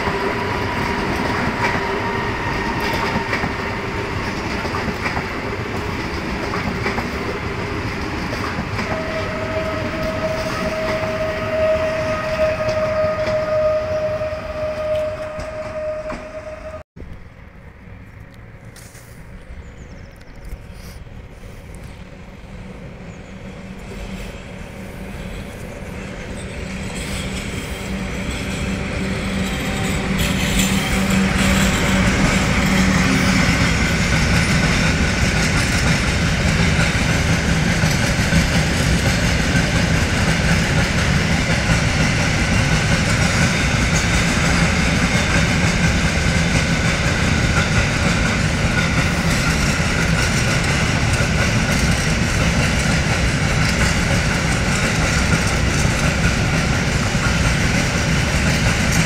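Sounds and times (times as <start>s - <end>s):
train wheels rushing on rail: 0.0s - 16.8s, 18.7s - 59.0s.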